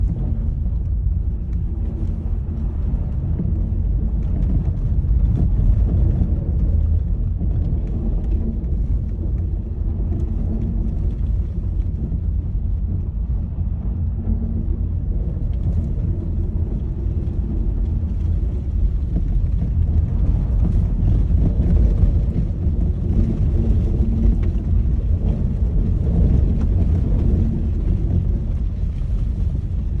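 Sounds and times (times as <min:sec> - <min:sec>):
car road rumble: 0:00.0 - 0:30.0.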